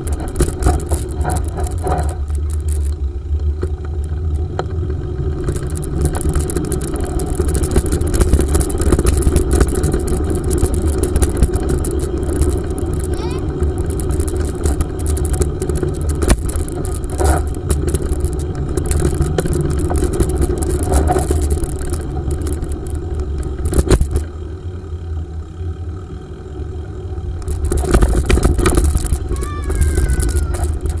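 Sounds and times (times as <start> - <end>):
bicycle rattling over bumps: 0.0 - 31.0.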